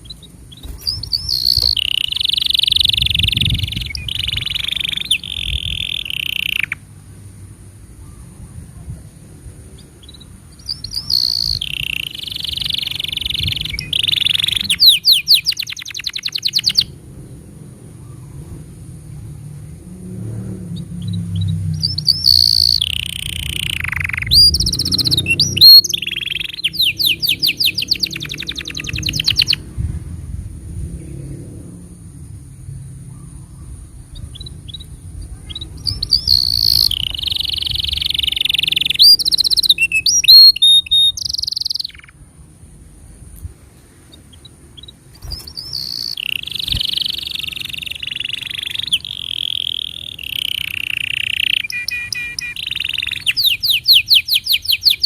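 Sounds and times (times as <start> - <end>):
canary singing trills: 0.0 - 19.1, 20.6 - 29.9, 32.9 - 42.5, 44.0 - 55.0.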